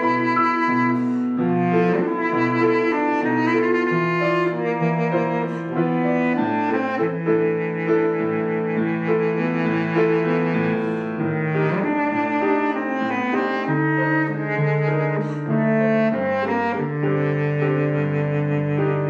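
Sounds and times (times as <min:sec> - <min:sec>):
baritone saxophone melody: 0:00.0 - 0:19.0
piano accompaniment: 0:00.0 - 0:19.0.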